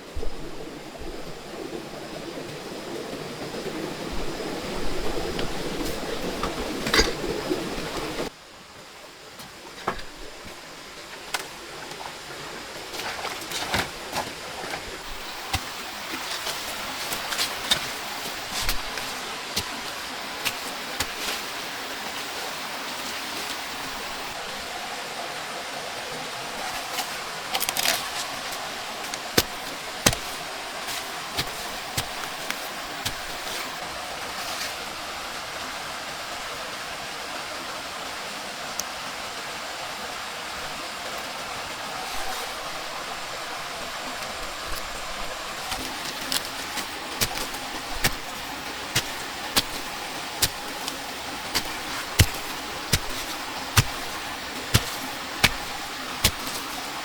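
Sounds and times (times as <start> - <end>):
heavy rain hissing: 0.0 - 8.3, 14.9 - 37.2, 39.8 - 57.0.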